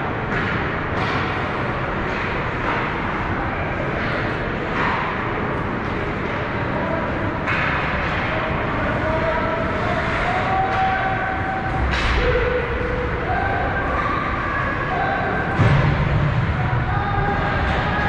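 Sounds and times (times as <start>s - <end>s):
indistinct voices in arena: 0.0s - 18.0s.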